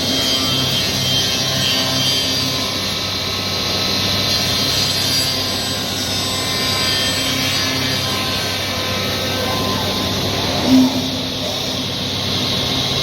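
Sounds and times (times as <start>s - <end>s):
cnc router machining wood: 0.0s - 13.0s.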